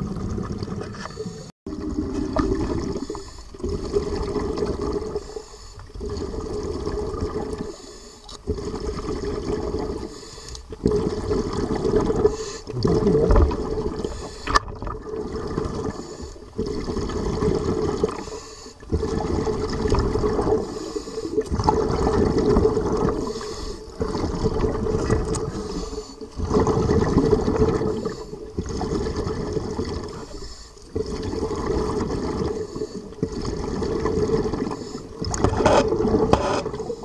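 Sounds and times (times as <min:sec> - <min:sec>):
water sloshing and gurgling: 0:00.0 - 0:37.0.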